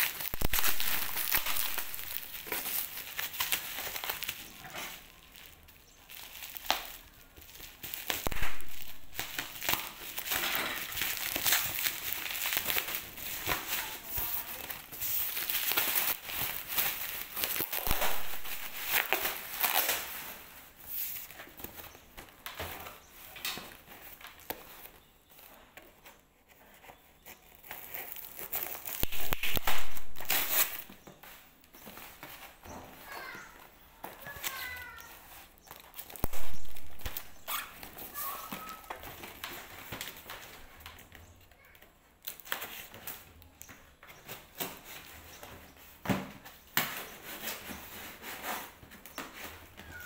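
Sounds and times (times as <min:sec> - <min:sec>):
bubble wrap crinkling: 0:00.0 - 0:50.0.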